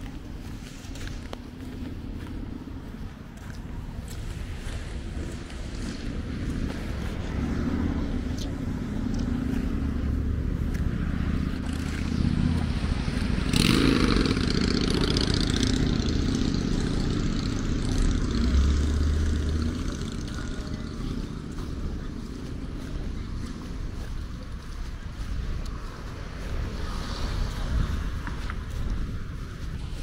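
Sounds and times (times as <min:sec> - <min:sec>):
motorbikes and cars passing: 0:00.0 - 0:30.0.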